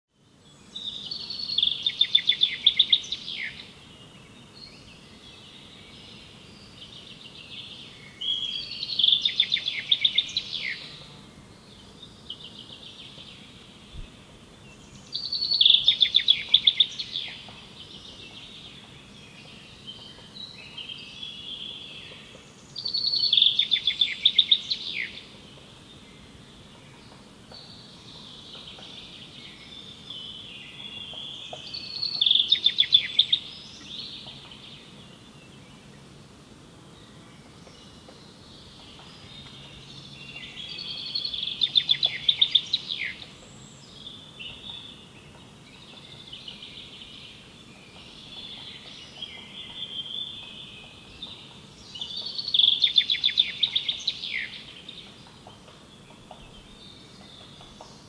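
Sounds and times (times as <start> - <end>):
other birds singing quietly: 0.1 - 58.0.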